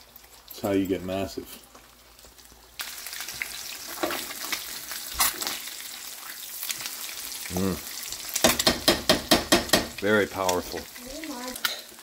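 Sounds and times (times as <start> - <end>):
eggs sizzling in a skillet: 0.0 - 12.0.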